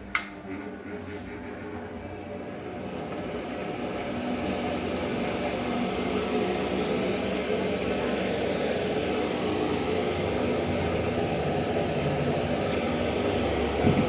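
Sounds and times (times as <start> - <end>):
oil spinner machine humming: 0.0 - 14.0.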